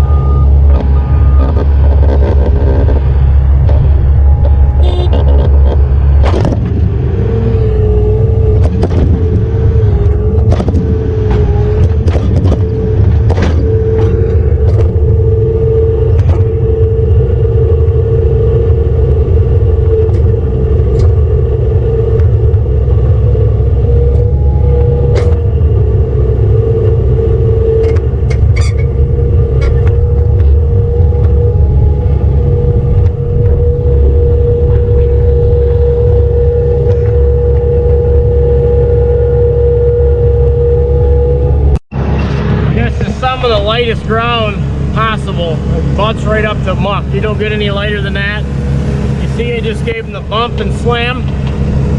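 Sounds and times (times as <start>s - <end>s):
heavy vehicle engine rumbling: 0.0s - 51.9s.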